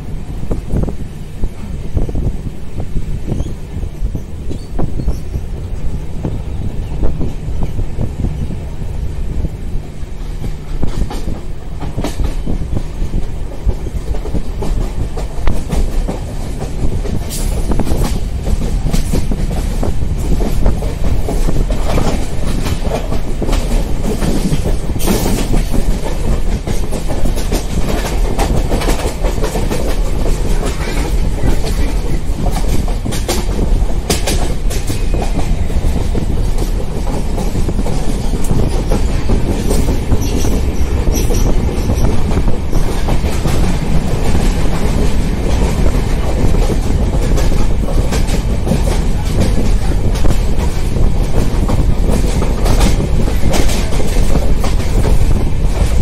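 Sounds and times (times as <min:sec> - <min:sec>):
train coaches rumbling: 0:00.0 - 0:56.0
wheels clacking over rail joints: 0:03.3 - 0:56.0.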